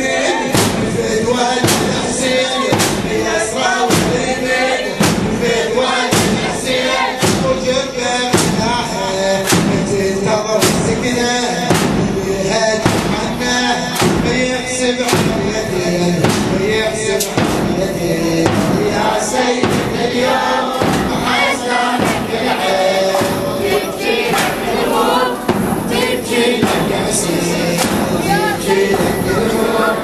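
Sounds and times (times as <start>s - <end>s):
men chanting a lament: 0.0s - 30.0s
rhythmic chest-beating strikes: 0.0s - 30.0s.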